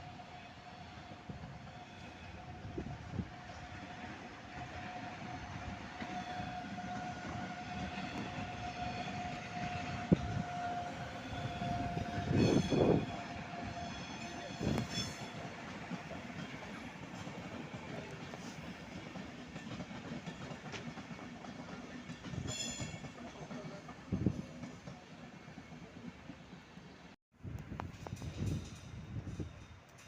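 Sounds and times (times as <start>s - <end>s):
train whine: 0.0s - 30.0s
train clattering: 1.6s - 30.0s.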